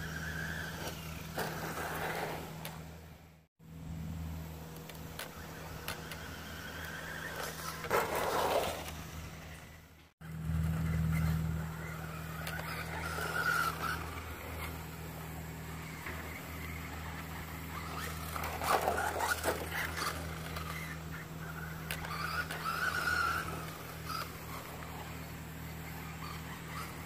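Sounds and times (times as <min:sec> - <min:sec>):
electric motor of toy truck: 0:00.0 - 0:02.8, 0:04.8 - 0:09.9, 0:10.5 - 0:27.0
tyres on loose dirt: 0:00.0 - 0:03.3, 0:04.6 - 0:27.0.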